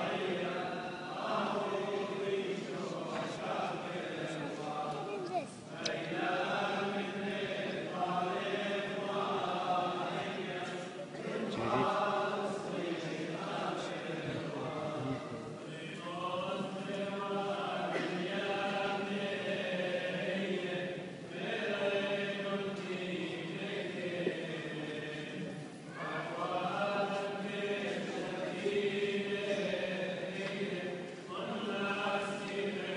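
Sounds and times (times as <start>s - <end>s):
group singing a chant: 0.0s - 32.9s.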